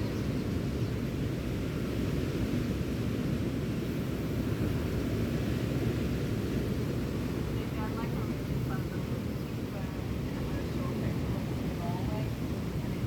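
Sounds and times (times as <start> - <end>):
waves: 0.0 - 13.0
wind: 0.0 - 13.0.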